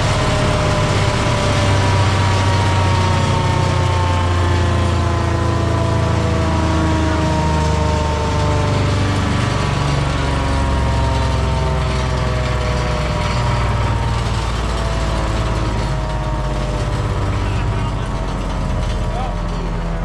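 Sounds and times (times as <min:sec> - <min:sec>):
woodchipper engine running: 0:00.0 - 0:20.0.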